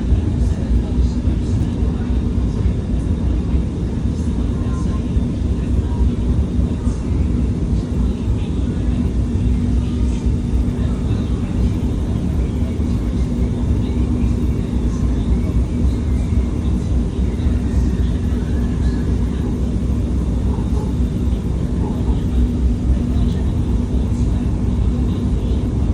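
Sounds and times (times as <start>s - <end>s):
train rumbling: 0.0s - 25.9s.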